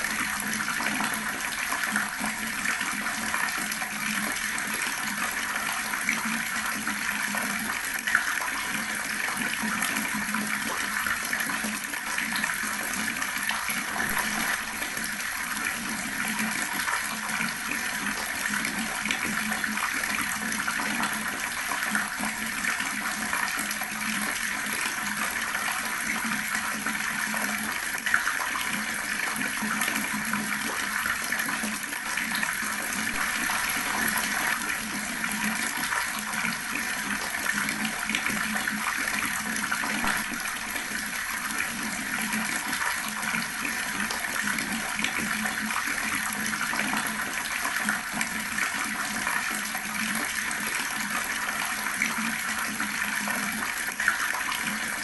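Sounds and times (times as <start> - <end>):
tap water splashing into basin: 0.0 - 55.0.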